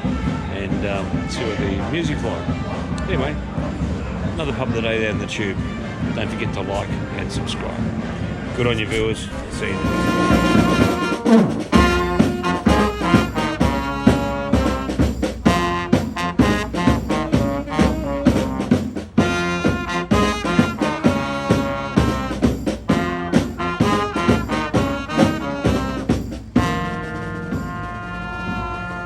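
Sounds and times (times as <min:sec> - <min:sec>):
upbeat jazzy brass music: 0:00.0 - 0:08.0, 0:08.6 - 0:29.0.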